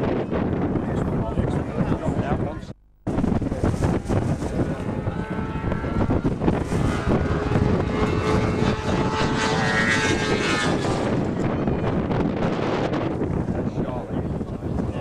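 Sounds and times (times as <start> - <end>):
propeller aircraft engine droning: 0.0 - 14.9.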